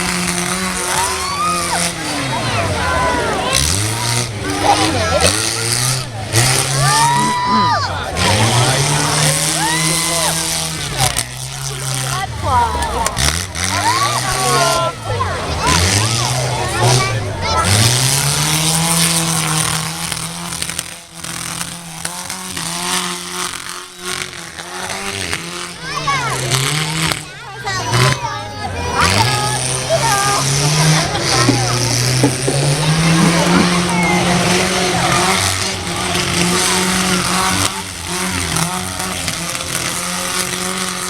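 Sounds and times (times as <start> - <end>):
truck engine running hard: 0.0 - 41.0.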